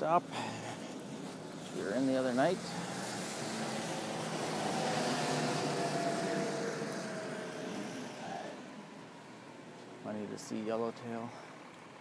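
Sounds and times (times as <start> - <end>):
road vehicle passing: 0.2 - 10.5.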